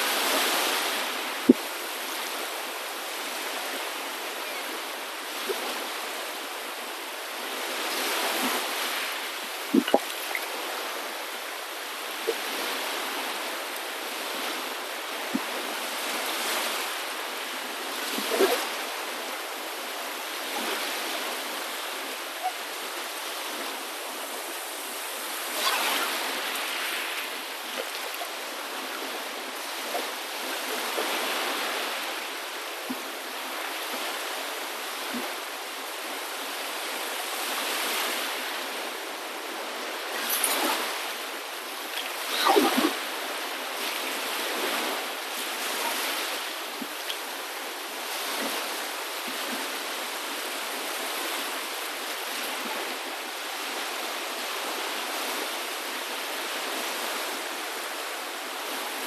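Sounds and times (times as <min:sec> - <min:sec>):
waves washing onto shore: 0:00.0 - 0:59.0.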